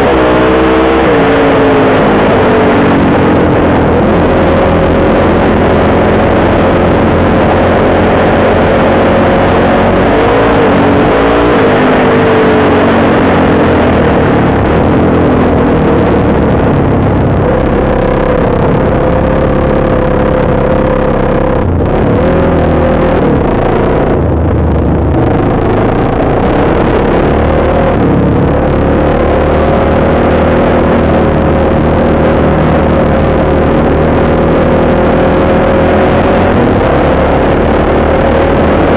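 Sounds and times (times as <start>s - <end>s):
off-road engine running: 0.0s - 38.9s
wind and road noise: 0.0s - 38.9s.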